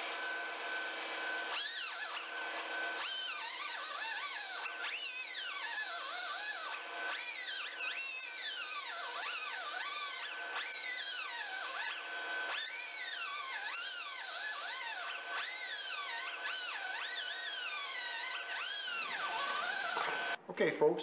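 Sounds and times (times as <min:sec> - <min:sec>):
die grinder whining on metal: 0:00.0 - 0:20.4.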